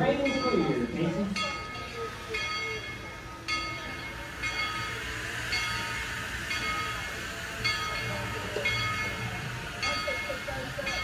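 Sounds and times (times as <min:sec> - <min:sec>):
locomotive bell ringing: 0:00.0 - 0:11.0
low rumble of train: 0:00.0 - 0:11.0.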